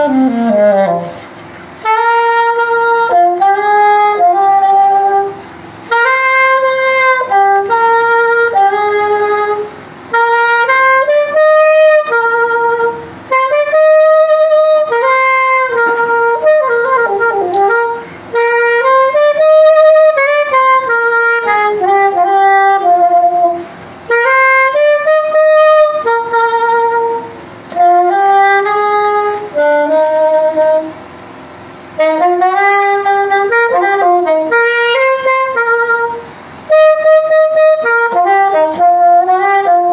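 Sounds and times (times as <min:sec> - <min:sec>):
saxophone playing hymn melody: 0:00.0 - 0:39.9.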